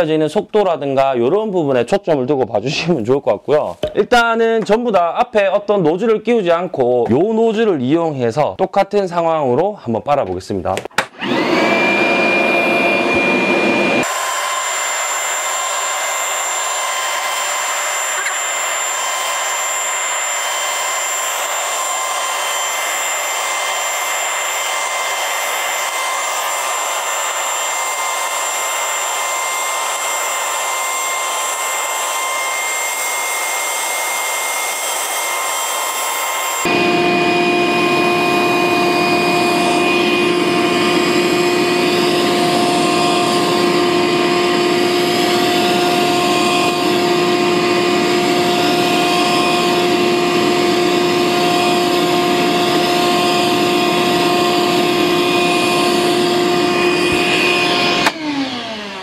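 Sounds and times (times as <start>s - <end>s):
shop vacuum whining: 10.7s - 59.0s.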